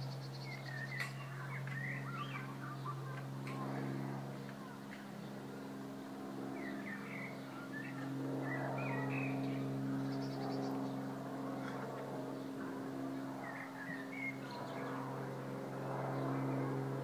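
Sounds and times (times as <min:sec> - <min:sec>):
small birds chirping: 0:00.0 - 0:05.4, 0:06.5 - 0:15.2
airplane drone: 0:00.0 - 0:17.0.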